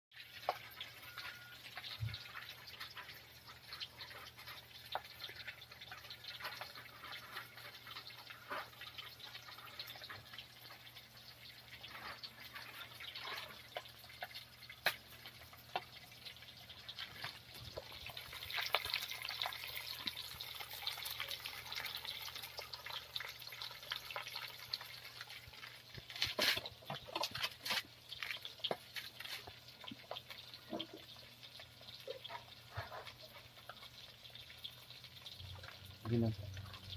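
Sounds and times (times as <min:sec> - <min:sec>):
food sizzling in hot oil: 0:00.1 - 0:36.9
oil popping and crackling: 0:00.1 - 0:36.9.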